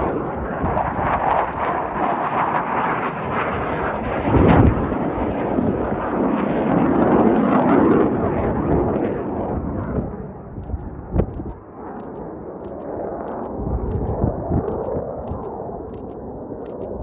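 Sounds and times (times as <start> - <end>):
jet aircraft engine noise: 0.0 - 17.0.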